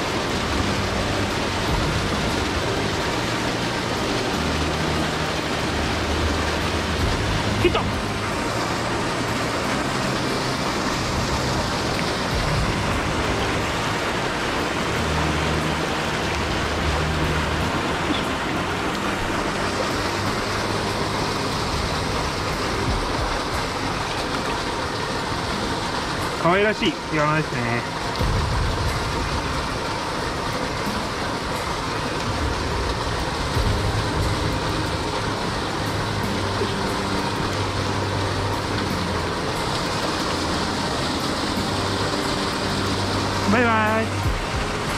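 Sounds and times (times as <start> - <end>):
low rumbles: 0.0 - 44.9
water rushing over rocks: 0.0 - 44.9.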